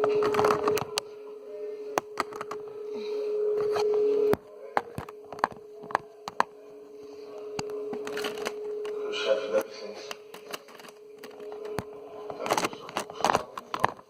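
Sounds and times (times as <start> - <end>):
high-pitched hum: 0.0 - 14.0.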